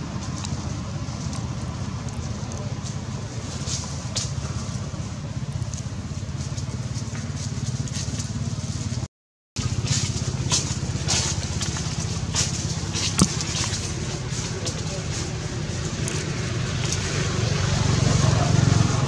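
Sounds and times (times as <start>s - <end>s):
dry leaves crackling: 0.0s - 9.0s, 9.6s - 19.0s
low pulsing engine rumble: 0.0s - 19.0s.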